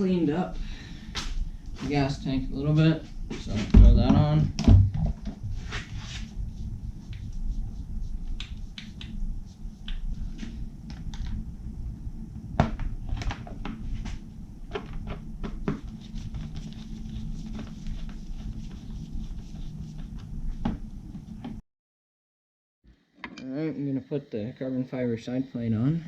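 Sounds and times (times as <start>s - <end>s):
low hum: 0.0s - 21.6s.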